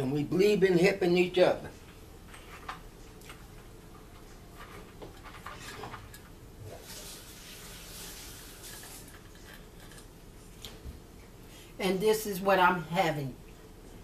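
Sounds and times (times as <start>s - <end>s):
soft rustling hiss: 0.0s - 14.0s.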